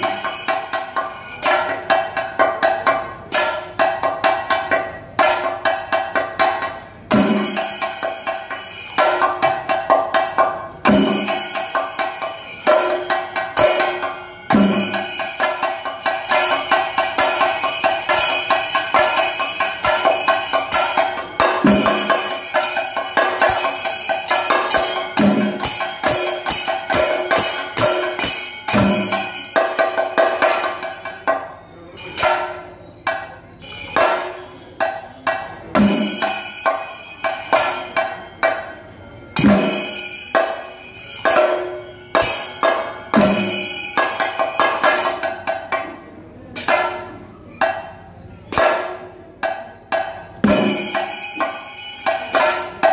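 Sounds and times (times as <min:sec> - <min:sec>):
cymbals ringing: 0:00.0 - 0:52.9
drums played with sticks: 0:00.0 - 0:52.9.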